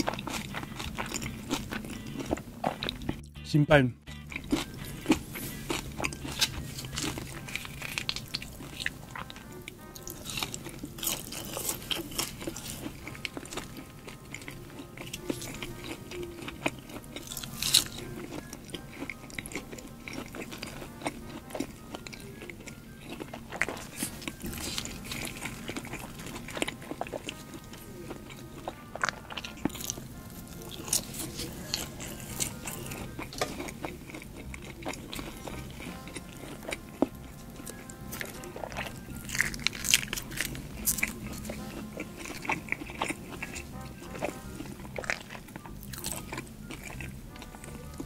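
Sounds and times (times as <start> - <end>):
chewing crunchy food: 0.0 - 3.4, 4.1 - 48.0
soft background music: 0.0 - 48.0.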